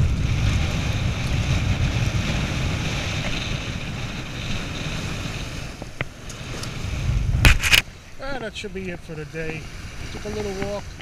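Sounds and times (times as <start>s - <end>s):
surf washing up beach: 0.0s - 11.0s
wind buffeting microphone: 0.0s - 11.0s.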